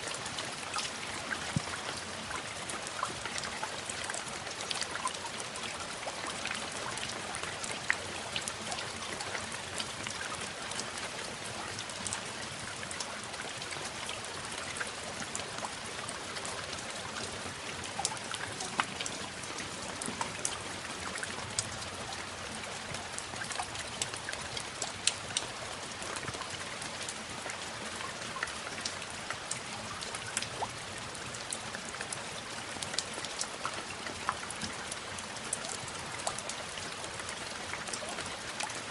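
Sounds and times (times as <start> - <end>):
rain drops ticking on surface: 0.0 - 38.9.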